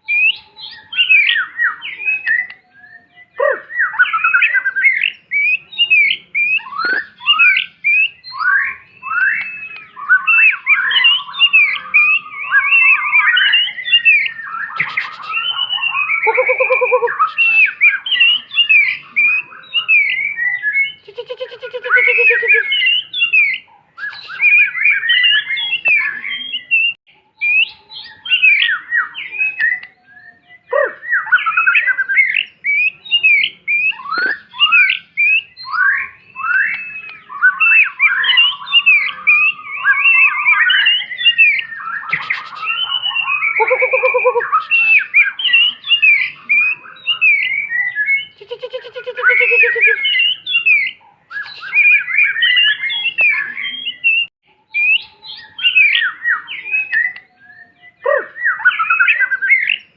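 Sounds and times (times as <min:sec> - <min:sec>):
bird singing whistled phrases: 0:00.0 - 0:59.9.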